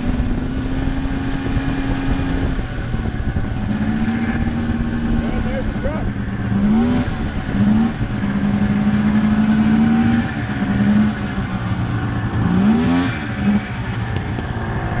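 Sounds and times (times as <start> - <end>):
snowmobile engine revving: 0.0 - 15.0
steady high whine: 0.0 - 15.0.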